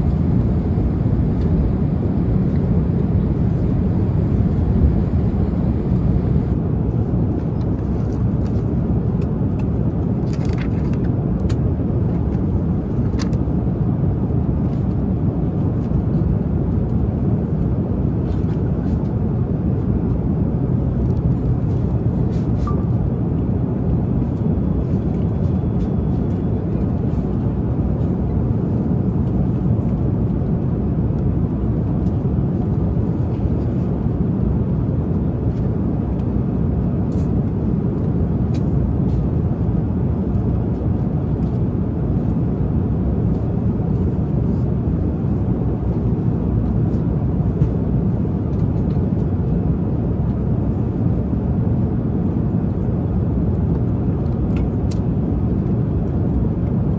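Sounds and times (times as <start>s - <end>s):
jet airliner cabin drone: 0.0s - 56.9s.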